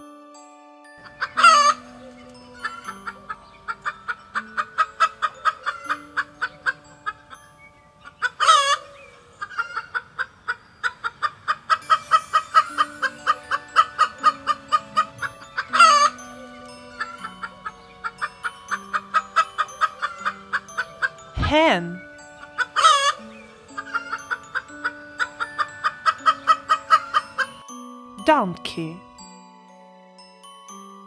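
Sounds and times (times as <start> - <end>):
chickens clucking: 1.0 - 21.4, 22.0 - 27.6.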